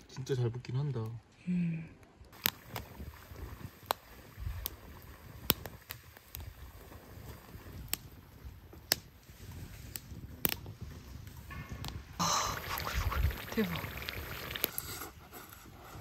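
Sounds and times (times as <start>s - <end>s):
firewood crackling and popping: 2.0s - 15.9s
low fire rumble: 2.2s - 16.0s.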